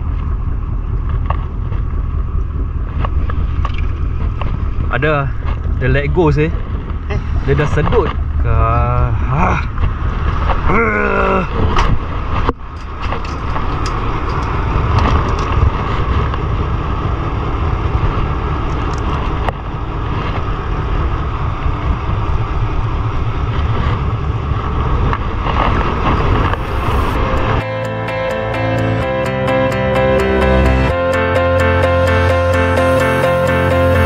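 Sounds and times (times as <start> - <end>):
wind buffeting microphone: 0.0 - 27.6
boat rumbling: 0.0 - 34.0.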